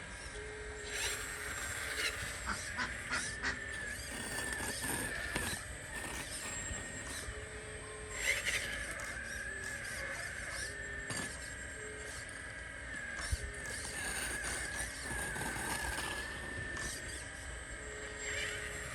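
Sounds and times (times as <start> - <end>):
small electric motors whining: 0.0 - 18.9.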